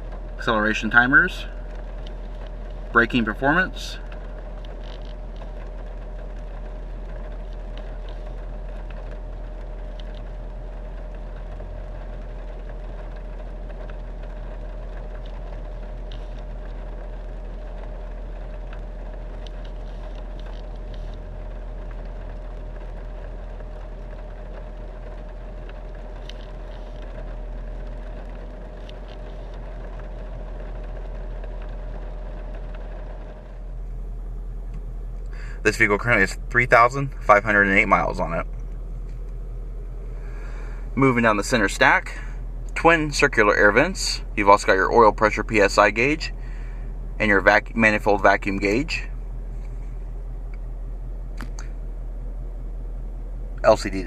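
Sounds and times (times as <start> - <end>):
car engine idling: 0.0 - 54.0
faint steady whine: 0.0 - 54.0
faint clicks: 1.4 - 3.0, 4.0 - 44.5, 49.6 - 51.8.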